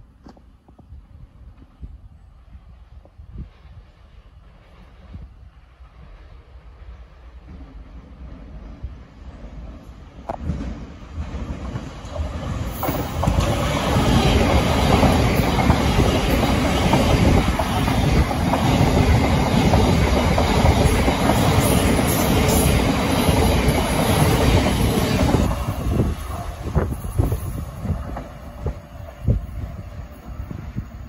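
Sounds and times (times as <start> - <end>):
electric train rushing past: 2.7 - 31.0.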